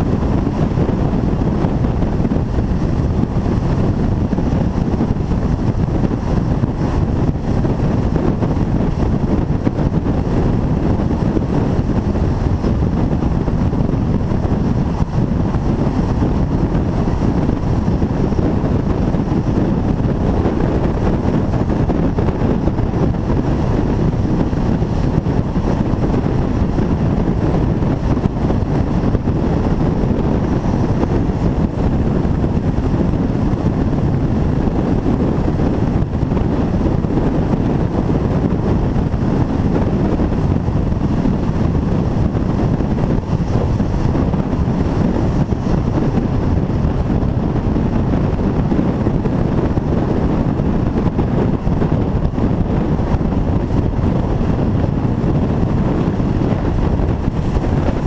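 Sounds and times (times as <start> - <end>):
train rolling on rails: 0.0 - 58.0
wind rush on microphone: 0.0 - 58.0.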